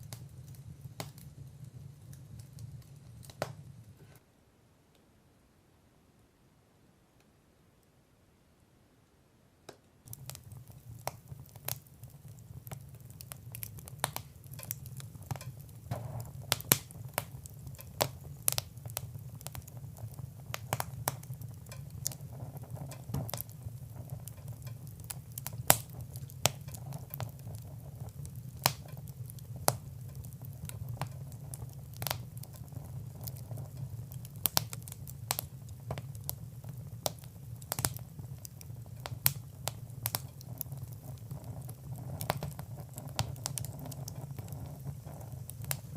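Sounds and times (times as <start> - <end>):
fire crackling and popping: 0.0 - 4.0, 10.0 - 45.9.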